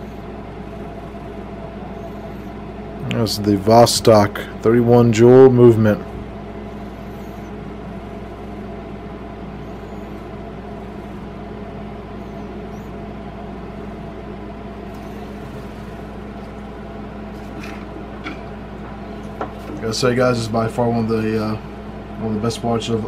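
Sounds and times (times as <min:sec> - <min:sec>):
low hum with hiss: 0:00.0 - 0:23.0.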